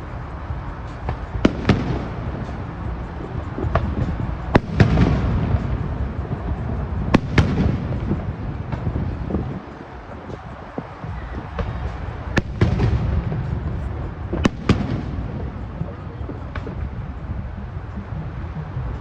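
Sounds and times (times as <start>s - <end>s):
fireworks bangs: 1.1s - 2.8s, 3.4s - 17.4s
low rumble of echoing shells: 1.1s - 9.8s, 11.6s - 18.4s.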